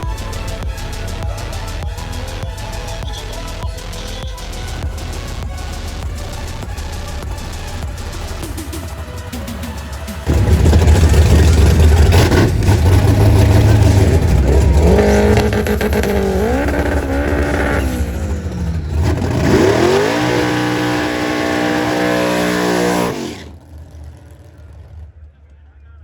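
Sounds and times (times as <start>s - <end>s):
car engine revving: 0.0s - 25.2s.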